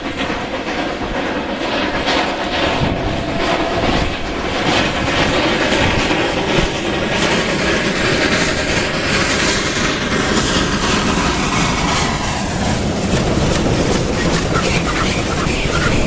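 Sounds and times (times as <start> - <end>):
steam locomotive exhaust: 0.0 - 16.0
steam venting: 0.0 - 16.0
wheels clattering on rails: 0.0 - 16.0.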